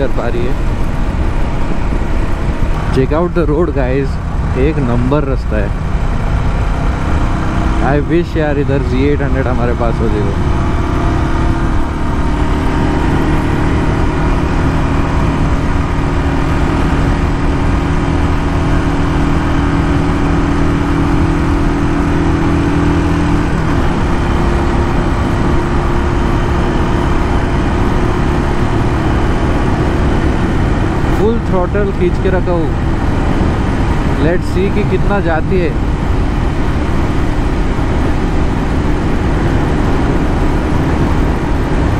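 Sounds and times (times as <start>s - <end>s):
motorcycle engine at full throttle: 0.0s - 41.9s
wind and road noise: 0.0s - 41.9s.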